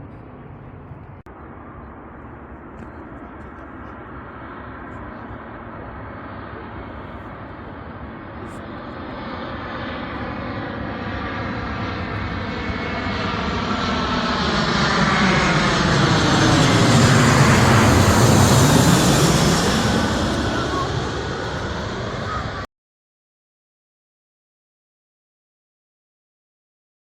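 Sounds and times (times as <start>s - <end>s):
airliner engines passing overhead: 0.0s - 22.7s.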